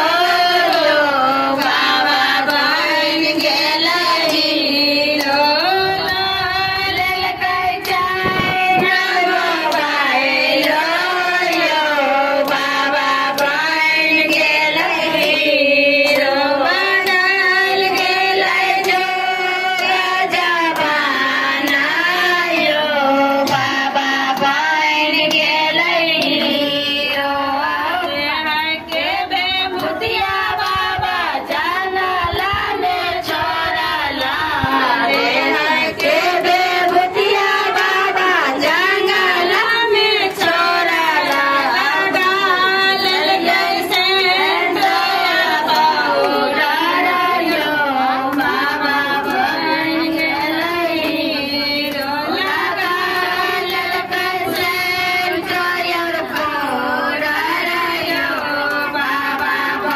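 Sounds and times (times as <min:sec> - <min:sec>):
hand claps: 0:00.0 - 0:59.9
women singing folk song: 0:00.0 - 0:59.9.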